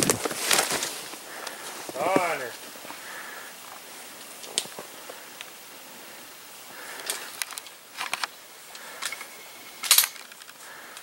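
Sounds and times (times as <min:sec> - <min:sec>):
twigs crackling and snapping: 0:00.0 - 0:05.6, 0:06.8 - 0:11.0
faint hiss: 0:00.0 - 0:11.0.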